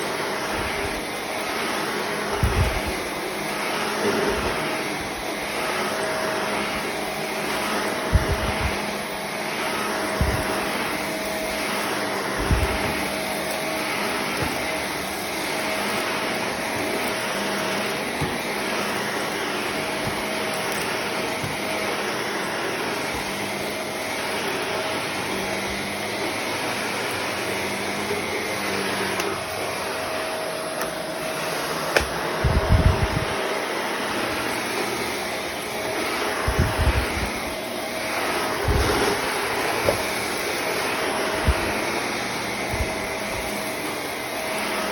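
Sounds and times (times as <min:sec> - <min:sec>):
upright vacuum cleaner running: 0:00.0 - 0:44.9.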